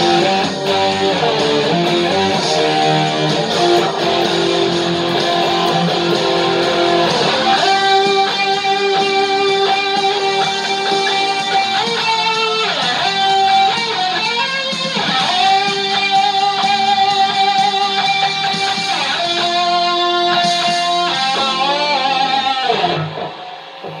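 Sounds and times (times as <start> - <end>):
electric guitar solo: 0.0 - 24.0.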